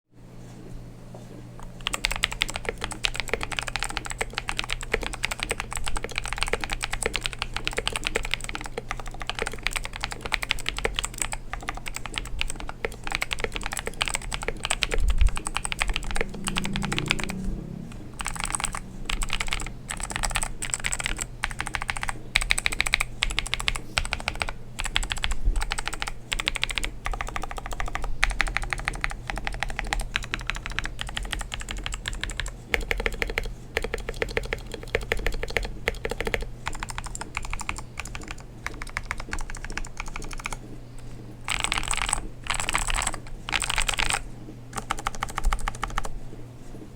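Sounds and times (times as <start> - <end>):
fast typing on clicky keyboard: 1.6 - 40.8, 41.5 - 46.1.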